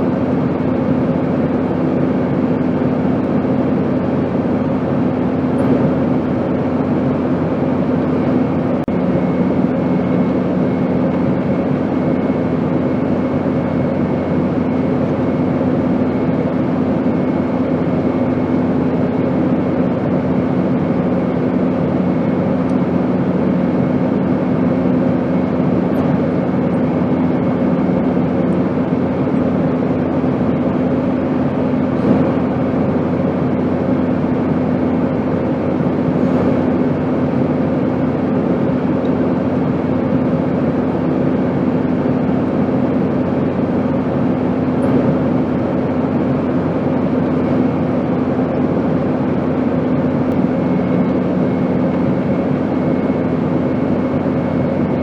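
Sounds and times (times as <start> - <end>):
airplane engine drone: 0.0 - 55.0
steady hums: 0.0 - 55.0.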